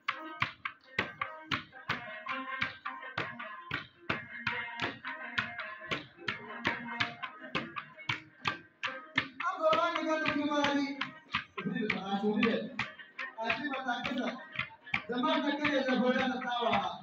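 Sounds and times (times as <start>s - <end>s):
sharp percussive beat: 0.0s - 17.0s.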